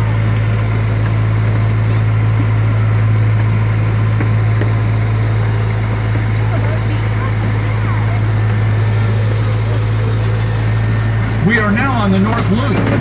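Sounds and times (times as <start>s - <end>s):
running gear rattle and rumble: 0.0s - 13.0s
train engine drone: 0.0s - 13.0s.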